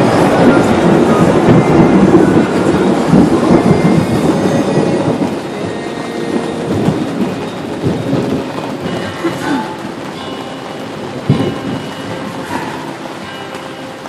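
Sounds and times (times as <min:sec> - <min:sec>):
thunder rolling: 0:00.0 - 0:14.0.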